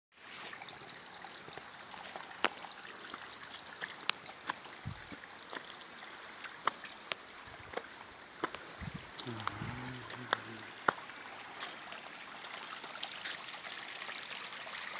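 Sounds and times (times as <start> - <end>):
creek water over rocks: 0.1 - 14.9.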